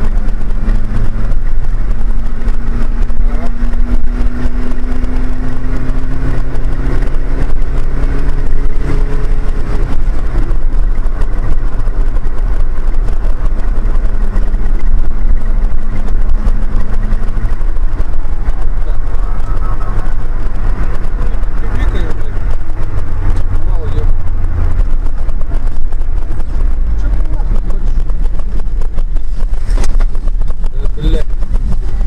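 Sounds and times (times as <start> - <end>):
car engine running: 0.0 - 32.0
road noise rumble: 0.0 - 32.0.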